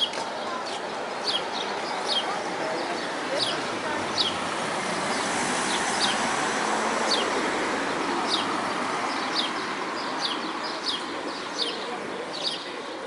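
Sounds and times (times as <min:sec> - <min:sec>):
cars driving past: 0:01.0 - 0:12.6.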